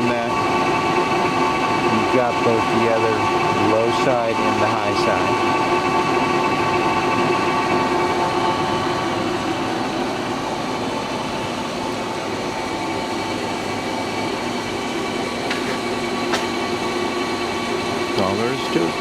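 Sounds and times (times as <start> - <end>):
lathe gearing whine: 0.0 - 19.0.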